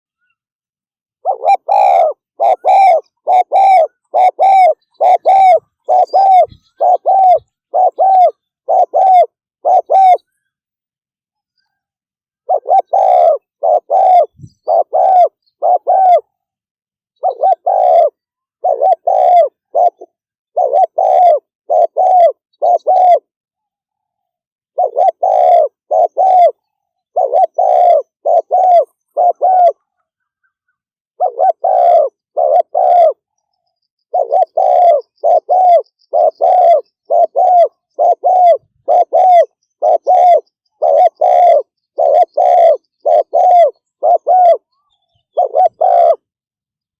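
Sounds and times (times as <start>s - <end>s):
dove cooing: 1.2s - 10.6s, 11.6s - 16.5s, 17.2s - 23.3s, 24.1s - 46.3s.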